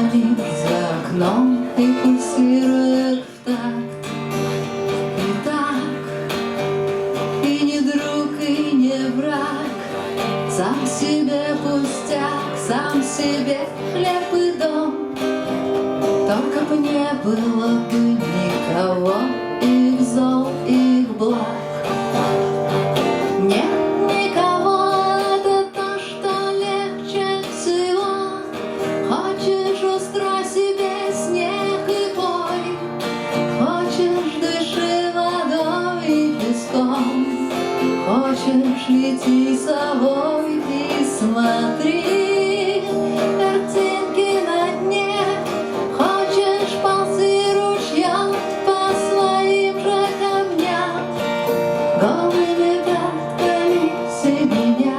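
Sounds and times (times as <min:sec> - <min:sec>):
strummed acoustic guitar: 0:00.0 - 0:54.9.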